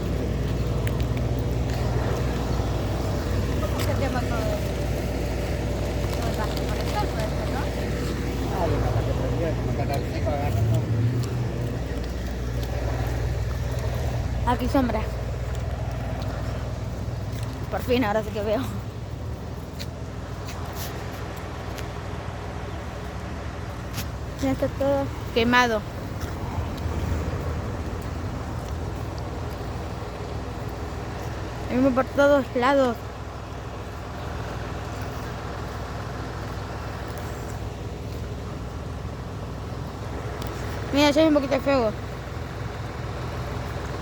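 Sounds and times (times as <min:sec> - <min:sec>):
car engine and road noise: 0:00.0 - 0:44.0
vehicle rumble: 0:00.0 - 0:44.0.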